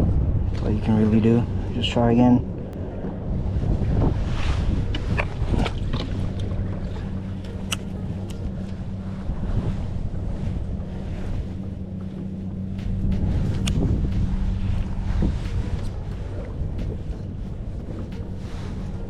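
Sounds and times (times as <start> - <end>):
steady low hum: 0.0 - 19.0
wind buffeting microphone: 0.0 - 19.0
water lapping at a kayak: 2.7 - 19.0.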